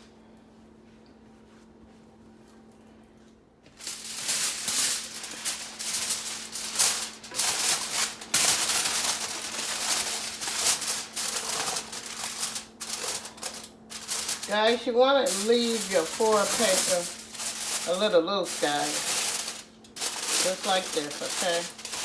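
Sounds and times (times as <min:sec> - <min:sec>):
aluminium foil crinkling: 0:03.7 - 0:22.0.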